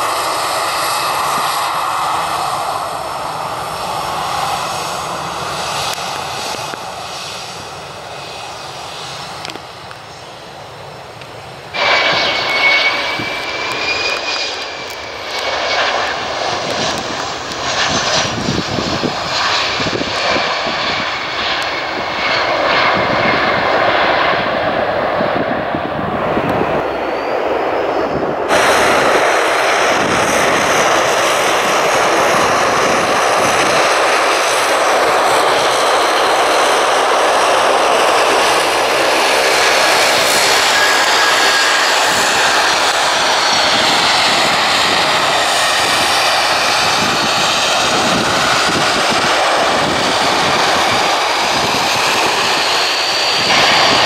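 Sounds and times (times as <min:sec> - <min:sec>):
aircraft turbine engines roaring: 0:00.0 - 0:54.0.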